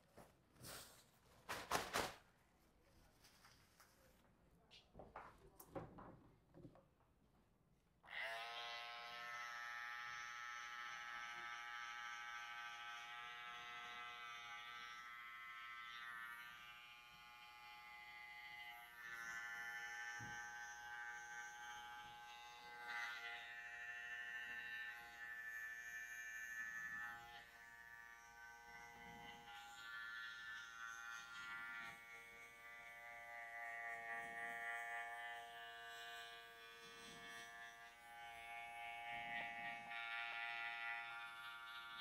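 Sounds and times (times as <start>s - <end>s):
electric hair clipper buzzing: 8.1s - 42.0s.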